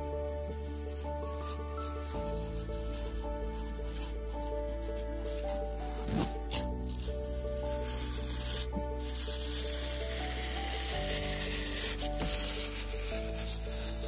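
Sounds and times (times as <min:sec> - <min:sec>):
slow background music: 0:00.0 - 0:14.0
knife cutting paper rasping: 0:01.4 - 0:14.0.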